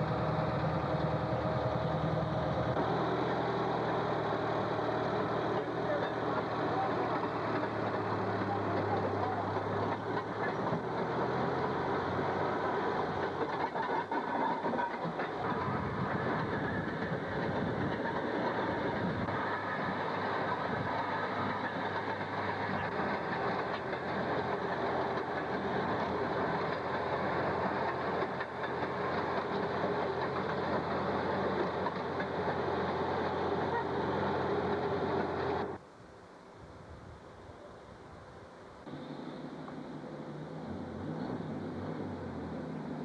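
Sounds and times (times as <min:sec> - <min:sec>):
steel wheels rolling on rails: 0:00.0 - 0:35.8.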